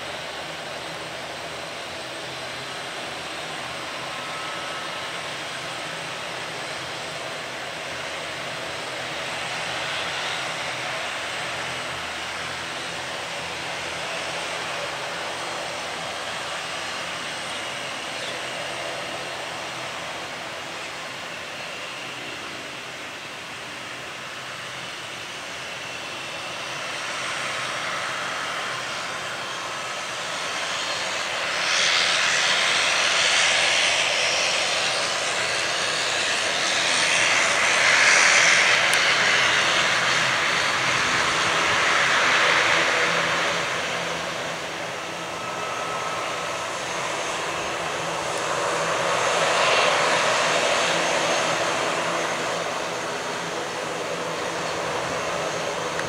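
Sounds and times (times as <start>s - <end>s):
jet engines rushing hiss: 0.0s - 56.0s.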